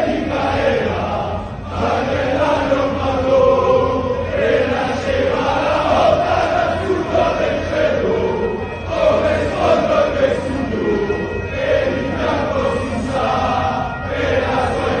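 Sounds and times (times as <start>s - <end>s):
crowd singing a chant: 0.0s - 15.0s.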